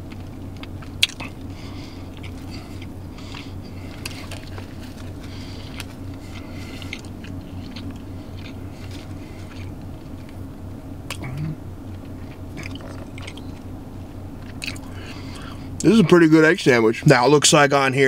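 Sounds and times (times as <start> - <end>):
chewing sandwich: 0.0 - 13.7, 14.4 - 15.6
steady low hum: 0.0 - 18.0.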